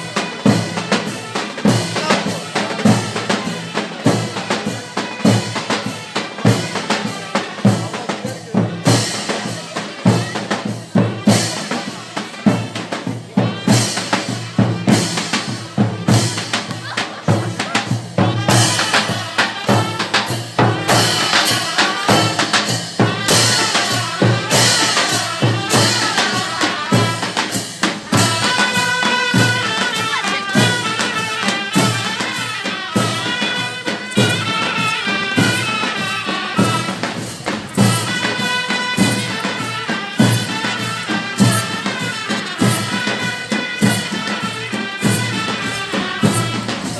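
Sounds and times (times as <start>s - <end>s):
big drums beating: 0.0s - 46.9s.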